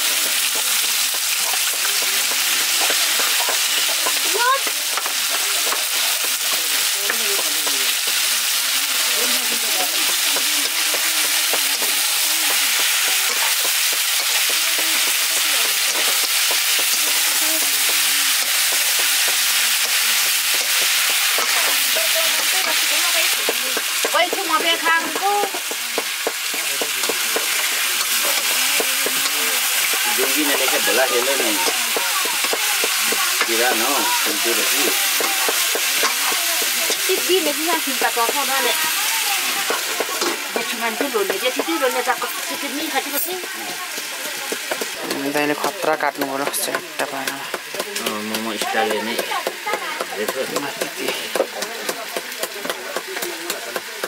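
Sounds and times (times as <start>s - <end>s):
chicken sizzling in a pan: 0.0s - 54.0s.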